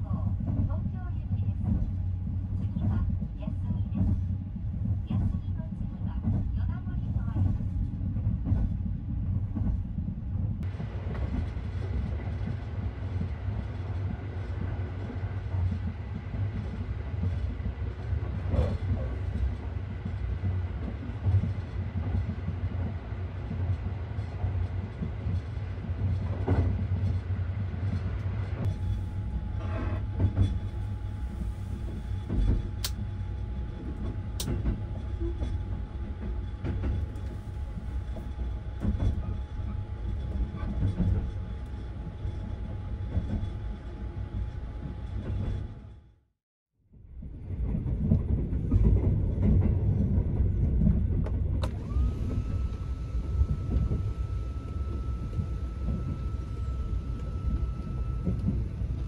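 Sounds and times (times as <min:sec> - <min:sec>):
train wheels rumbling on rails: 0:00.0 - 0:46.1, 0:47.0 - 0:59.0.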